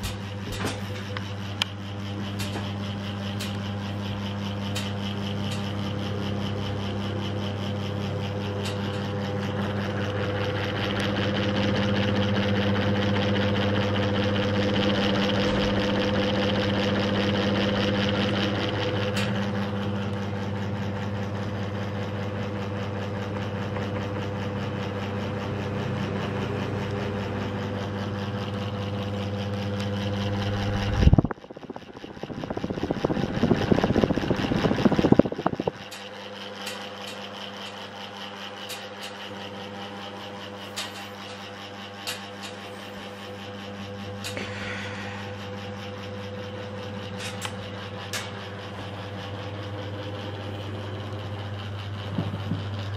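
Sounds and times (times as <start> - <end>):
ceiling fan running: 0.0 - 52.9.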